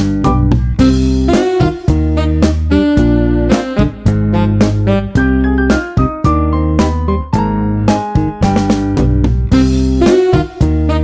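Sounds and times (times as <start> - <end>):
steady bass line: 0.0 - 11.0.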